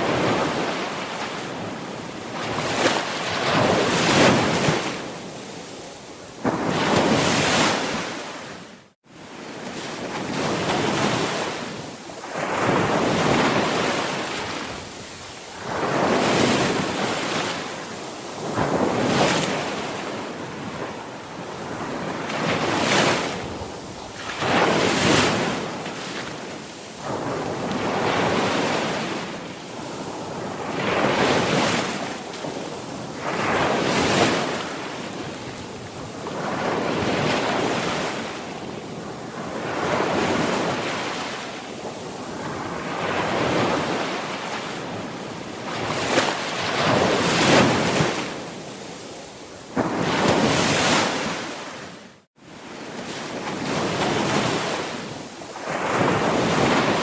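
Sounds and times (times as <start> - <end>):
sea waves breaking: 0.0 - 21.0, 21.6 - 38.5, 39.2 - 57.0.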